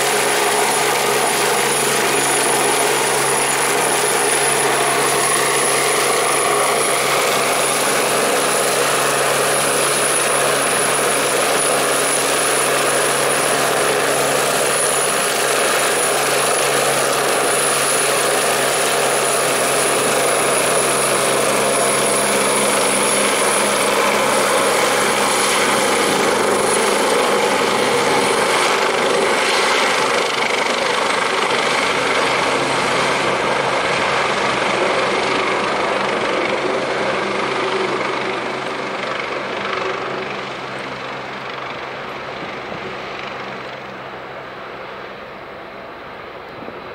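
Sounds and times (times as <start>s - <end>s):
helicopter hovering: 0.0s - 46.9s.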